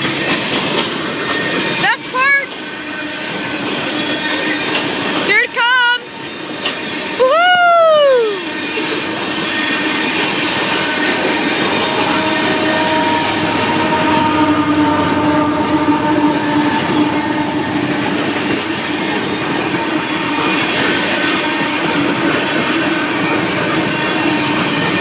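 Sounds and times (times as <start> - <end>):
train rumbling past: 0.0 - 25.0
wheels clattering on rails: 0.0 - 25.0.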